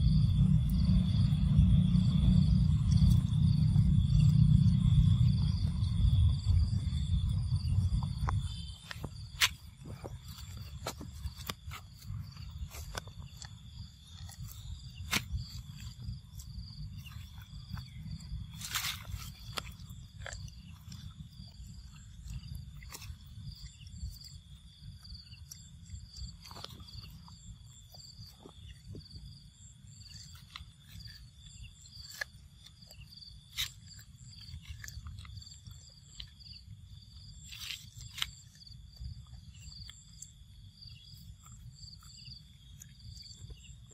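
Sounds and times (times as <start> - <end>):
insects chirring: 0.0 - 43.9
low continuous rumble: 0.0 - 43.9.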